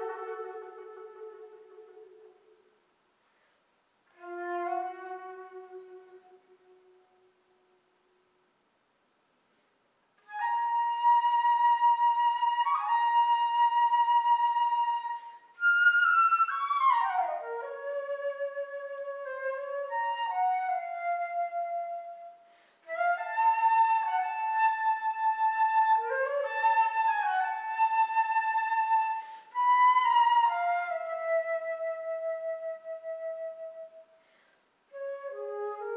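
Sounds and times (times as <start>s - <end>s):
solo flute playing: 0.0s - 2.7s, 4.1s - 8.3s, 10.2s - 35.9s.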